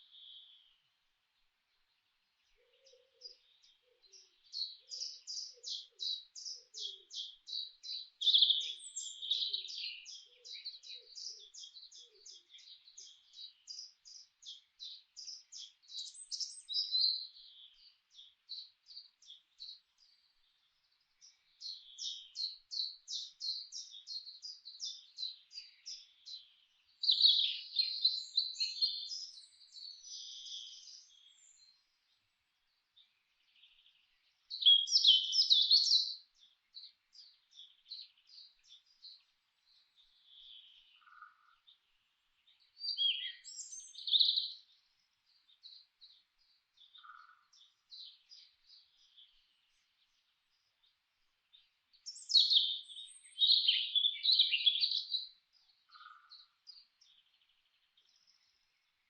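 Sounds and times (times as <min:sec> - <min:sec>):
songbirds singing: 0:00.0 - 0:59.0
bird chirps: 0:01.7 - 0:59.0.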